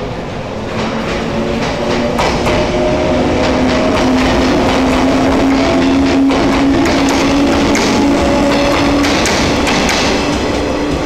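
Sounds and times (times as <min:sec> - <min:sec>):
electric train motor hum: 0:00.1 - 0:11.0.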